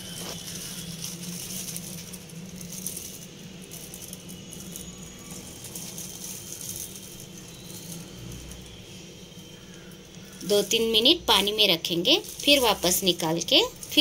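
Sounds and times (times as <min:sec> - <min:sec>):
plastic glove crinkling: 0:00.0 - 0:14.0.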